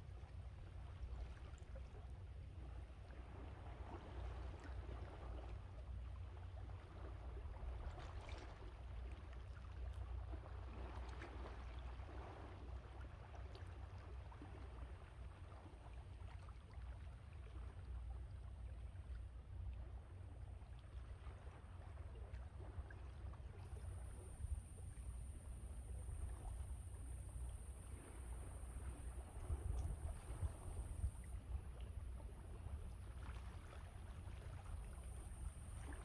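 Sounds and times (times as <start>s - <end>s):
wind rumble on microphone: 0.0s - 36.0s.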